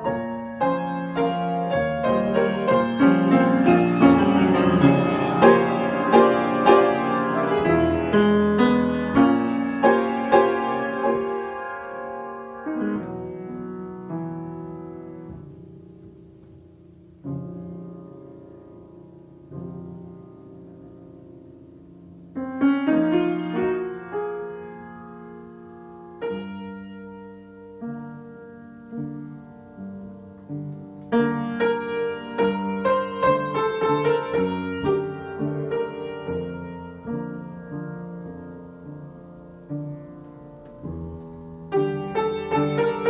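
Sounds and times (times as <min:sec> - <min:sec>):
solo piano playing: 0:00.0 - 0:43.0.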